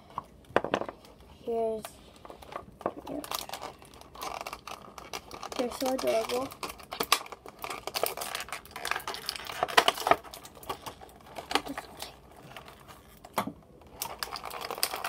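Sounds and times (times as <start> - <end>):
plastic toys clicking and tapping: 0.2 - 1.1, 1.7 - 15.0
packaging crinkling: 2.3 - 15.0.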